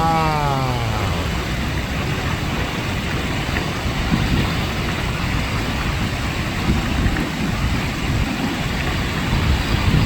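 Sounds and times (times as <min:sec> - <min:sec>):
mountain stream rushing: 0:00.0 - 0:10.0.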